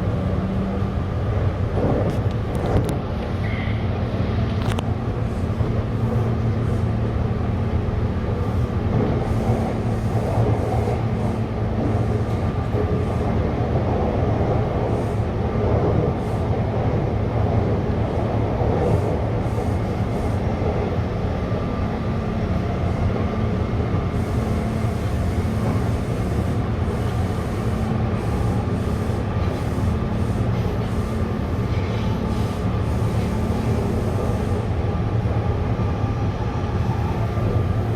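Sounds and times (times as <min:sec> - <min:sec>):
train rumbling: 0:00.0 - 0:37.9.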